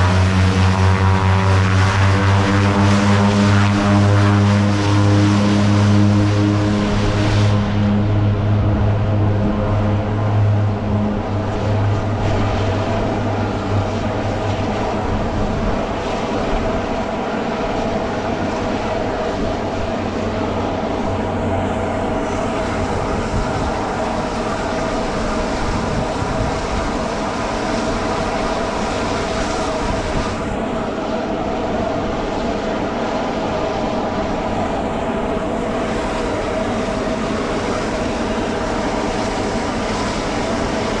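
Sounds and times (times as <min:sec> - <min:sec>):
aircraft engines idling: 0:00.0 - 0:41.0.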